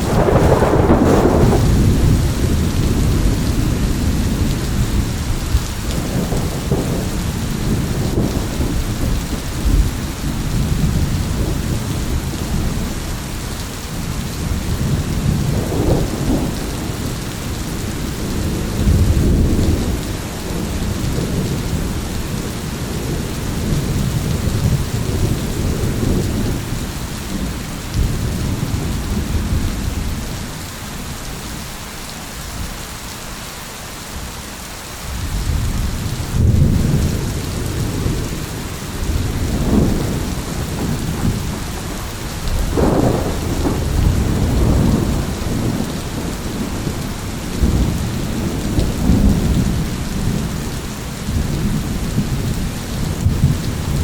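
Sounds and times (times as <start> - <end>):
rolling thunder: 0.0 - 30.4, 35.1 - 54.0
steady rain: 0.0 - 54.0.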